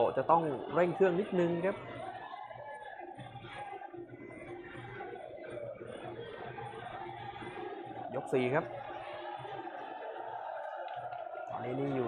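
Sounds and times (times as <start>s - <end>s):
faint stadium crowd noise: 0.0s - 12.0s.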